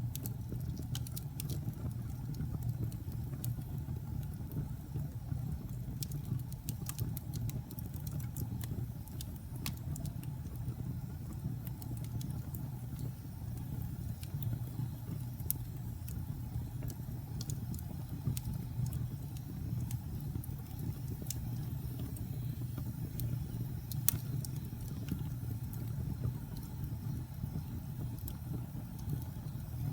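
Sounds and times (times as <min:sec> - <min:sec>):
fire pops and snaps: 0:00.0 - 0:29.9
fire rumbling in fireplace: 0:00.0 - 0:29.9.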